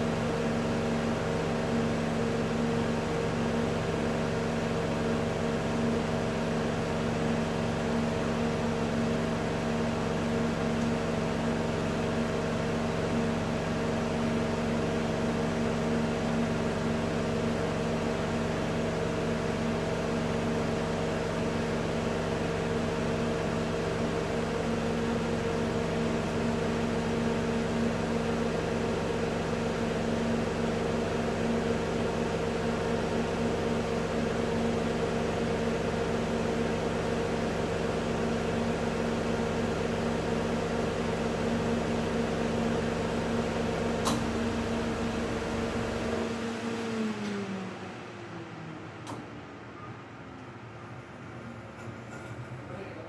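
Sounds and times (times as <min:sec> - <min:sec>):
autoclave mechanical hum: 0:00.0 - 0:53.0.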